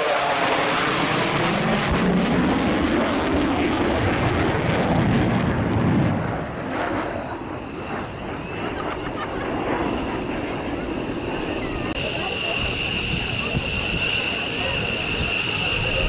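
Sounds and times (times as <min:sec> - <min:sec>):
jet flying past: 0:00.0 - 0:16.0.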